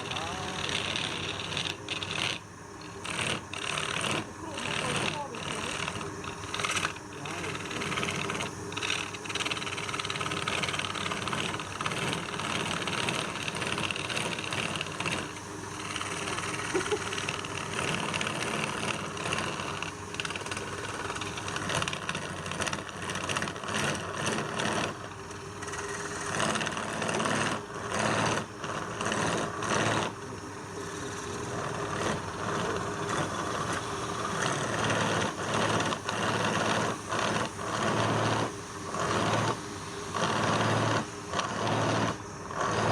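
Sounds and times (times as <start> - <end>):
lathe motor hum: 0.0 - 42.9
turning tool cutting spinning wood: 0.0 - 42.9.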